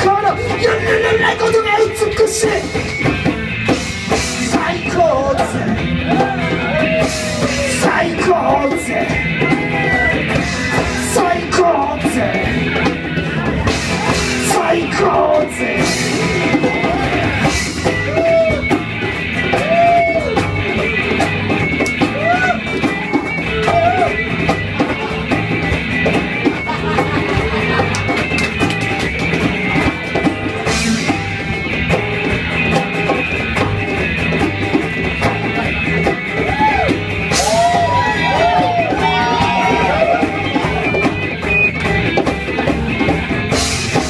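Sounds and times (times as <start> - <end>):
drum kit: 0.0 - 44.0
electric guitar: 0.0 - 44.0.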